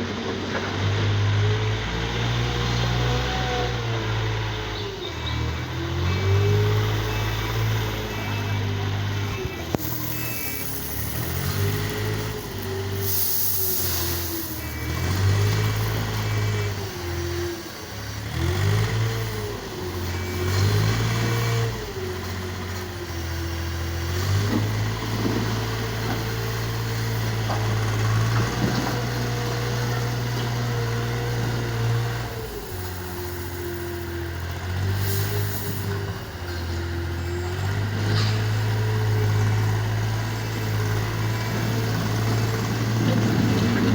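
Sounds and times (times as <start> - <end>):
engine revving: 0.6 - 43.9.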